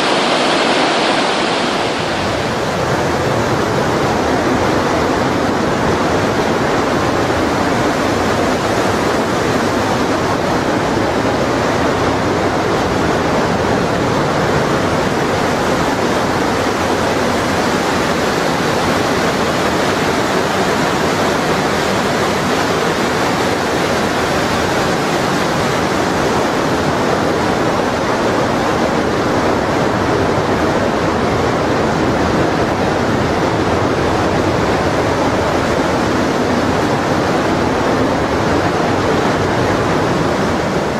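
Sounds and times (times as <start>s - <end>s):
river rushing over boulders: 0.0s - 40.9s.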